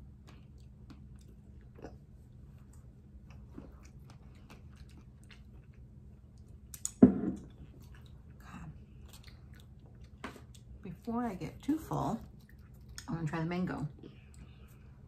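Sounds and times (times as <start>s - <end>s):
person chewing food: 0.0s - 10.8s, 12.2s - 13.1s, 14.0s - 15.0s.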